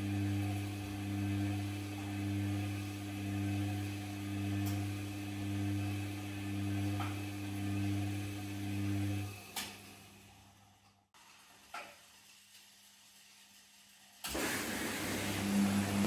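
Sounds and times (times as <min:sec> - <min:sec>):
washing machine electrical hum: 0:00.0 - 0:16.0.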